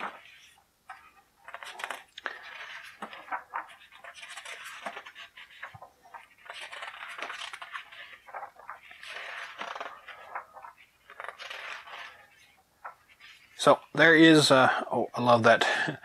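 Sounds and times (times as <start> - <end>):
pages turning: 0.0 - 14.6.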